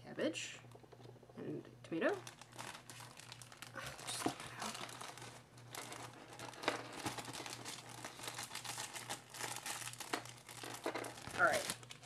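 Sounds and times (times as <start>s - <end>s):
plastic bag crinkling: 2.0s - 12.0s.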